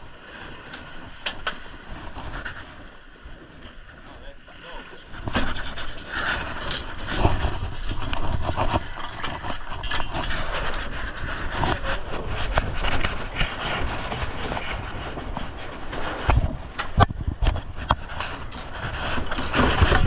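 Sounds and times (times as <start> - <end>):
wind buffeting microphone: 0.9 - 20.0.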